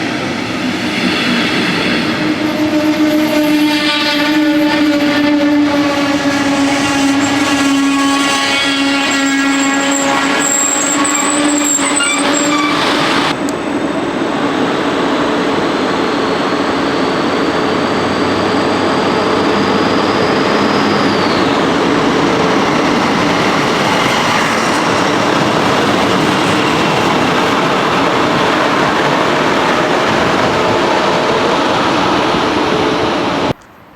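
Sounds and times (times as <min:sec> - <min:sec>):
train running noise: 0:00.0 - 0:33.9.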